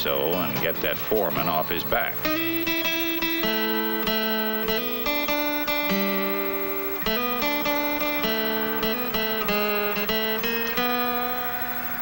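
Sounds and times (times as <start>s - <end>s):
acoustic guitar notes picked: 0.0s - 12.0s.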